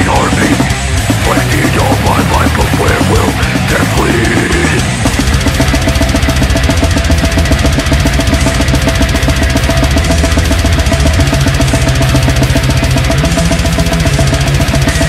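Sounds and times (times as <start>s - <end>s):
low guitar and bass riff: 0.0s - 15.0s
very fast dense drumming: 0.0s - 15.0s.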